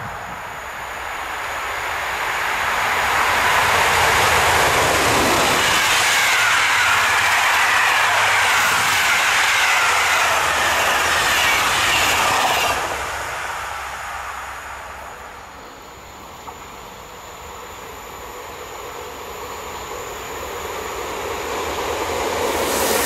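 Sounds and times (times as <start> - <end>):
train passing: 0.0 - 23.0
wheel-on-rail noise: 0.0 - 23.0.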